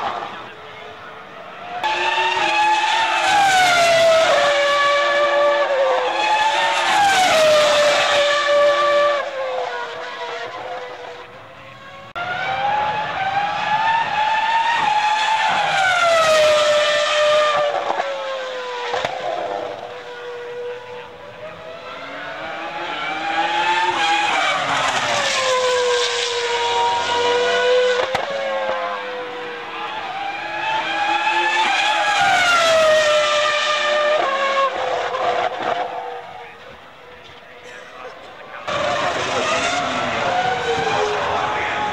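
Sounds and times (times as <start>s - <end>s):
racing car engines passing by: 0.0s - 41.9s.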